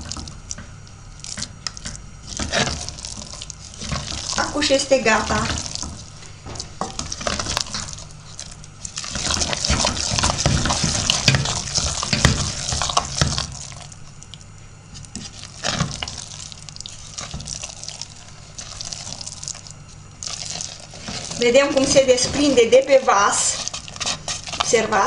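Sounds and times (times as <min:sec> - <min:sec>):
spoon squelching and scraping pot: 0:01.2 - 0:25.0.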